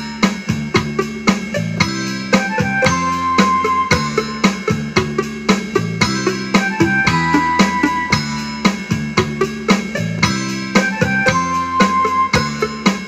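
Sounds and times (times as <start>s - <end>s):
drum kit steady beat: 0.0s - 13.0s
held keyboard chords: 0.0s - 13.0s.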